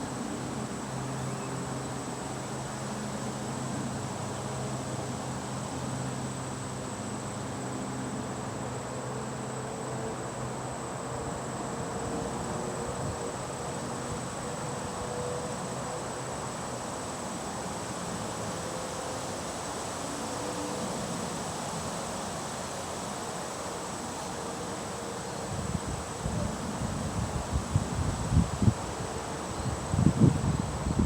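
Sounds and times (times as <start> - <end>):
insects high-pitched drone: 0.0 - 31.0.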